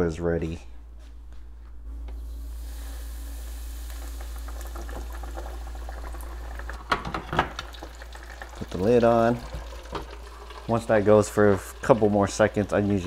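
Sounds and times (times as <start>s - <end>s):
fish frying in hot oil: 2.3s - 13.0s.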